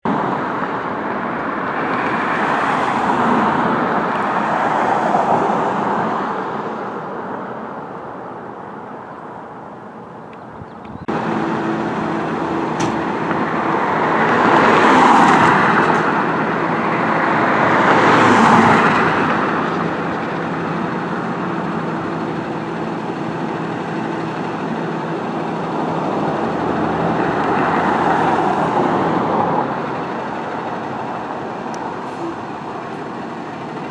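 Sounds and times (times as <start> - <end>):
road traffic passing: 0.0 - 33.9.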